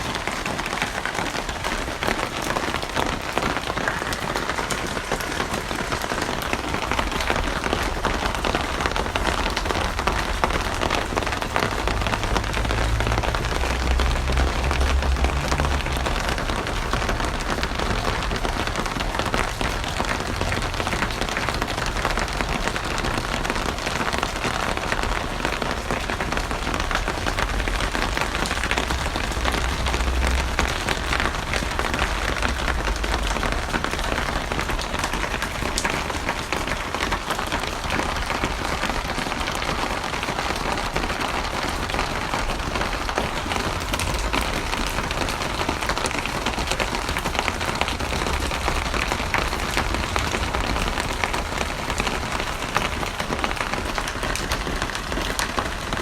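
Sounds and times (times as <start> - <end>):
heavy rain patter: 0.0 - 56.0.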